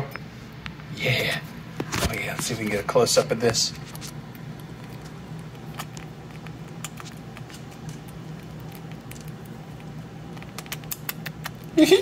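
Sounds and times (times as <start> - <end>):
steady low hum: 0.0 - 12.0
squirrel chewing: 1.8 - 11.8.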